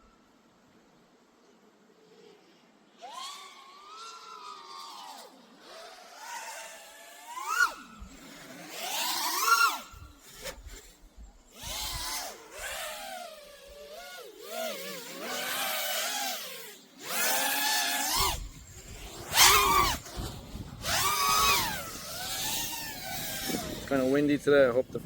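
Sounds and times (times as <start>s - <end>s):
drone propellers whining: 2.9s - 25.0s.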